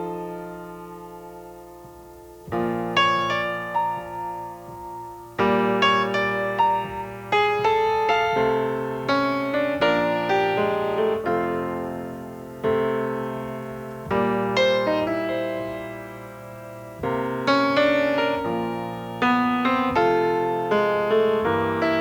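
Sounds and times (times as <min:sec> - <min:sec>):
solo piano: 0:00.0 - 0:22.0.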